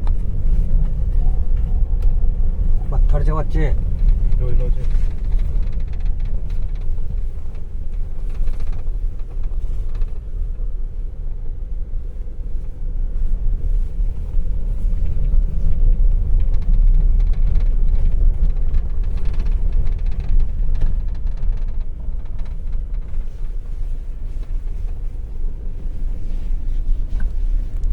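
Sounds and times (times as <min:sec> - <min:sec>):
faint rattles: 0:00.0 - 0:27.9
vehicle low rumble: 0:00.0 - 0:27.9.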